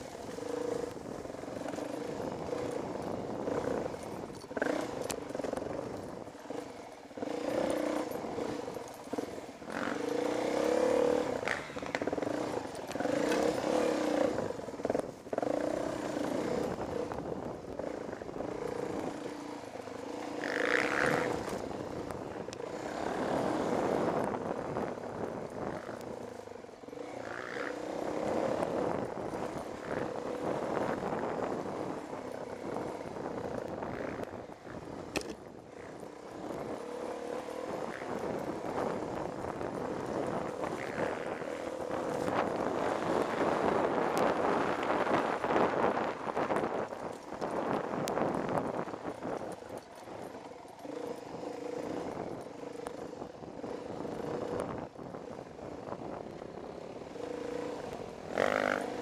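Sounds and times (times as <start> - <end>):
dirt bike engine revving: 0.0 - 17.2, 17.8 - 46.8, 57.0 - 59.0
wind noise: 0.0 - 59.0.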